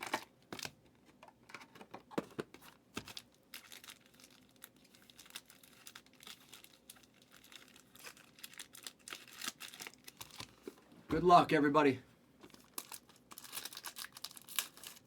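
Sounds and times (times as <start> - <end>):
card packaging crinkling and tearing: 0.0 - 0.8, 1.4 - 10.8, 12.4 - 15.0.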